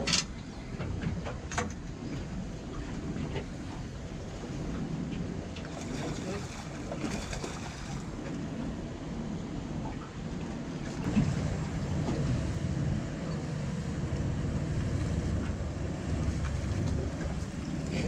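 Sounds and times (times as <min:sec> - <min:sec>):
water sloshing against boat hull: 0:00.0 - 0:18.0
wind rumbling on microphone: 0:00.0 - 0:18.0.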